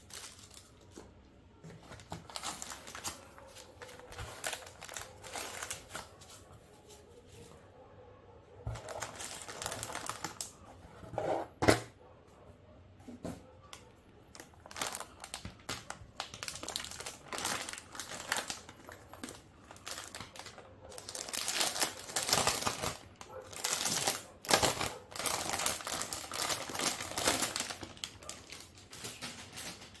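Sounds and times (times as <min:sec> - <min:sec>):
plastic packaging crinkling: 0:00.0 - 0:07.4, 0:08.6 - 0:10.8, 0:14.2 - 0:30.0.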